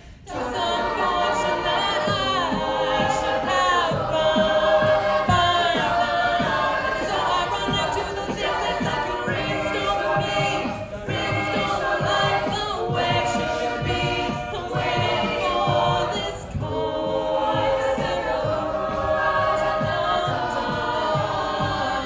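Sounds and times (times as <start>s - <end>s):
a cappella group singing in harmony: 0.0s - 22.0s
short low thumps keeping the beat: 0.3s - 22.0s.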